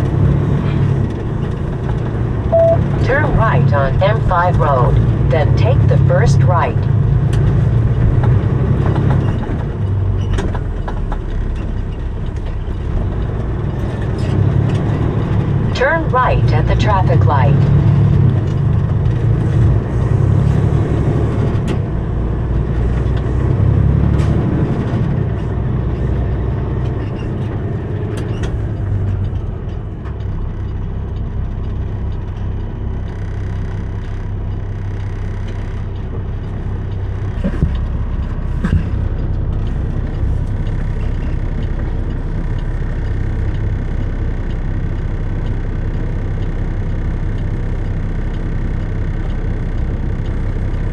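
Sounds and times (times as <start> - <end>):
truck diesel engine rumble: 0.0 - 50.9.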